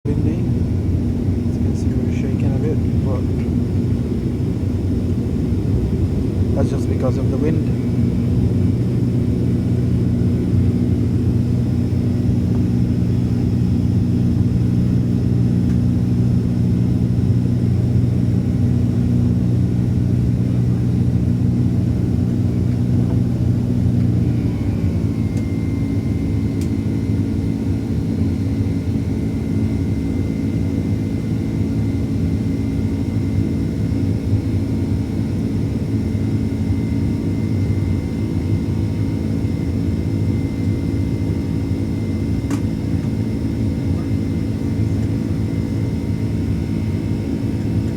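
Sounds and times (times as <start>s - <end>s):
high engine whine: 0.1s - 47.9s
jet engines rumbling: 0.1s - 47.9s.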